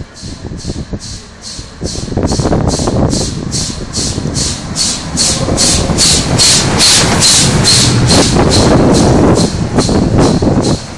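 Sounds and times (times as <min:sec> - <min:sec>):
low rumble: 0:00.0 - 0:10.9
steam locomotive chuffing: 0:00.0 - 0:10.9.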